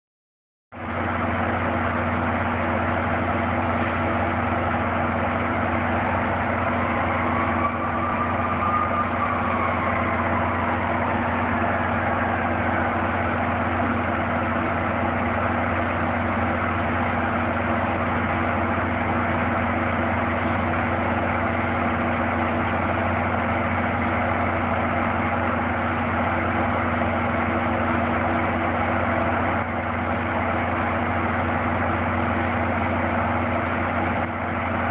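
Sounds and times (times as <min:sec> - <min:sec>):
diesel locomotive idling: 0:00.8 - 0:34.9.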